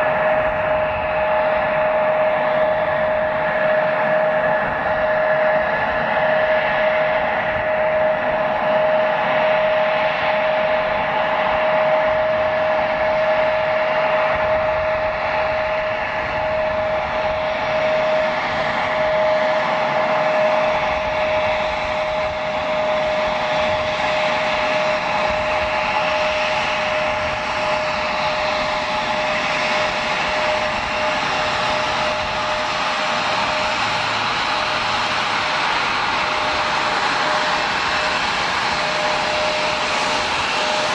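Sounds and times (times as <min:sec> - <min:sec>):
jet engines whining at idle: 0:00.0 - 0:40.9.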